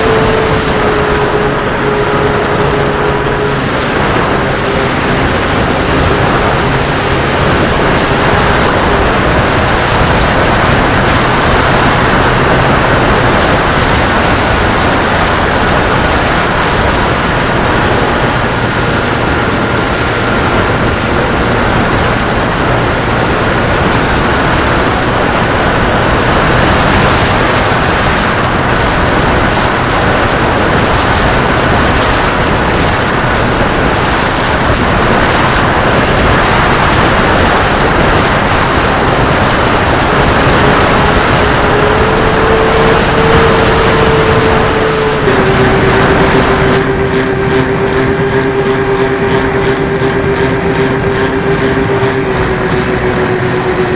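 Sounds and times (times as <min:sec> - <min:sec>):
faint motor drone: 0:00.0 - 0:53.9
wind rushing on microphone: 0:00.0 - 0:53.9.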